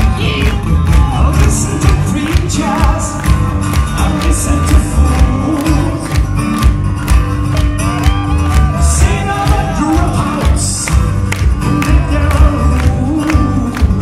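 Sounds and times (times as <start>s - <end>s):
person singing lead vocal: 0.0s - 6.4s, 8.4s - 14.0s
acoustic guitars strummed: 0.0s - 14.0s.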